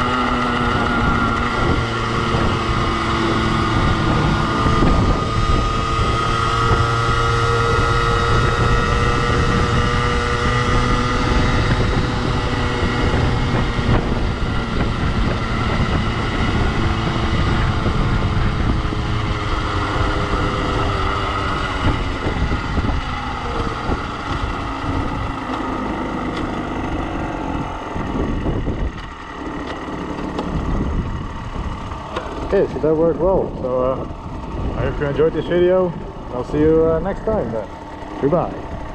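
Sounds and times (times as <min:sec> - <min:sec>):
two-stroke motorbike engine: 0:00.0 - 0:38.9
wind rushing over microphone: 0:00.0 - 0:38.9.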